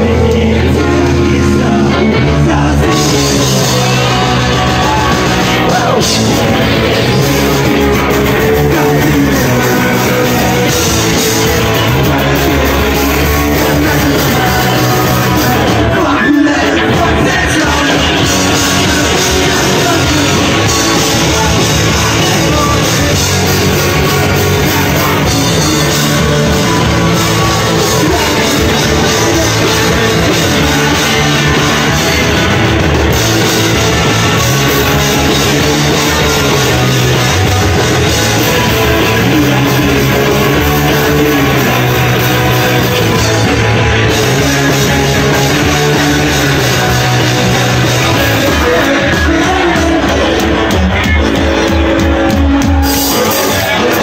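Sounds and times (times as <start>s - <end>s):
bass guitar: 0.0s - 54.0s
distorted electric guitars: 0.0s - 54.0s
drums: 0.0s - 54.0s.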